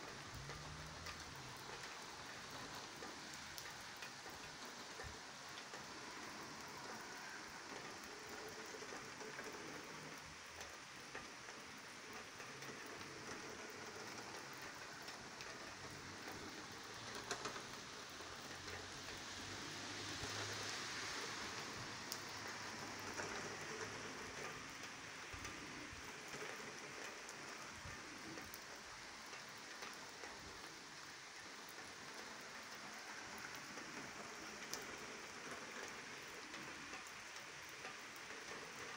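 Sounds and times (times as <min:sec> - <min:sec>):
rain on wet pavement: 0:00.0 - 0:38.9.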